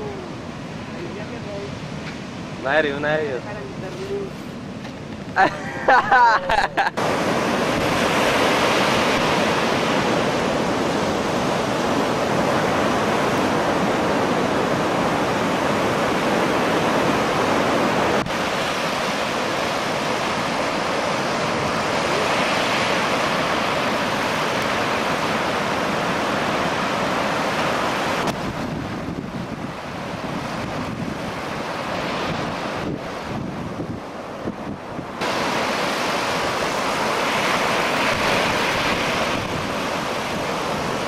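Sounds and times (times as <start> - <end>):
heavy surf breaking: 0.0 - 41.0.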